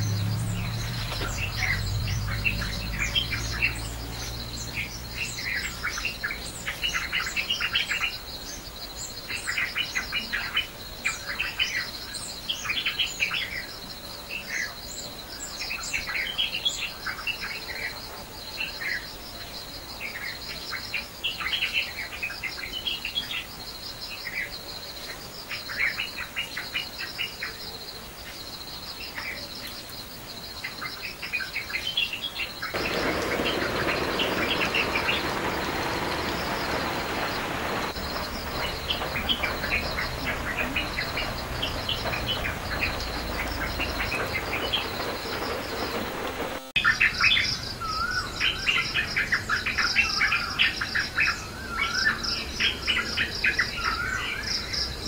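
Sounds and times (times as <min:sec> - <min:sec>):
birds chirping: 0:00.0 - 0:54.8.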